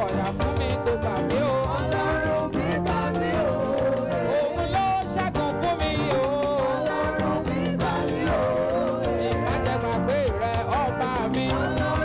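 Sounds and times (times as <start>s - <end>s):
gospel band playing: 0.0s - 12.0s
person singing: 0.0s - 12.0s.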